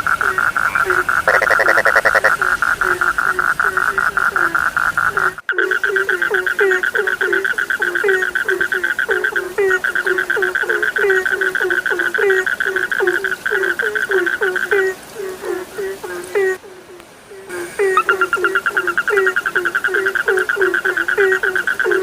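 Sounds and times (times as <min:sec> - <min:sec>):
frogs croaking: 0:00.0 - 0:22.0
frogs trilling: 0:00.0 - 0:22.0.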